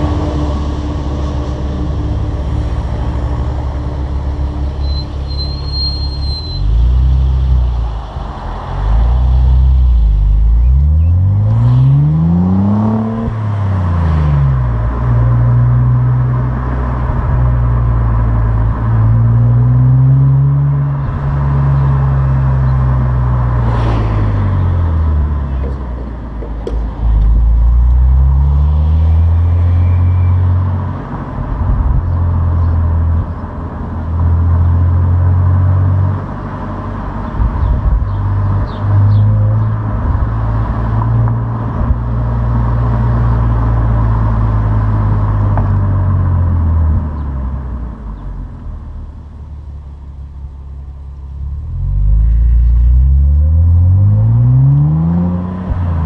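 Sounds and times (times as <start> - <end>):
car engine revving under load: 8.8 - 49.4, 51.4 - 56.0.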